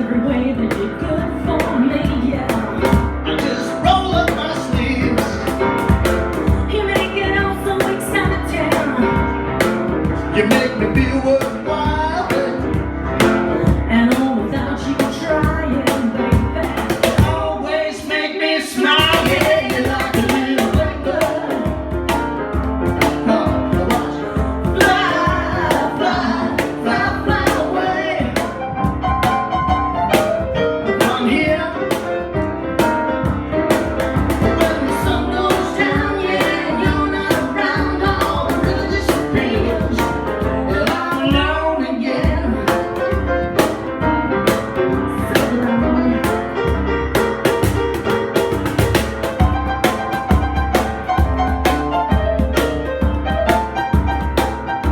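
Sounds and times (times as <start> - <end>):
live band playing blues-rock: 0.0 - 17.6, 19.0 - 54.9
steady drum beat: 0.0 - 17.7, 18.9 - 54.9.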